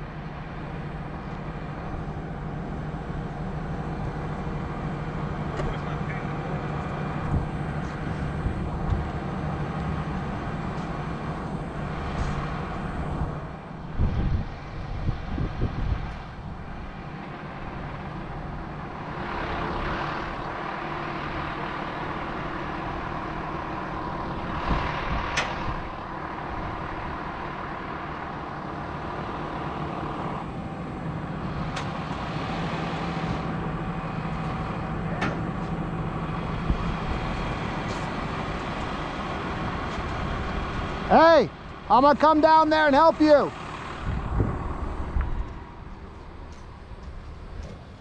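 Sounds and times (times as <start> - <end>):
crane truck engine running: 0.0 - 48.0.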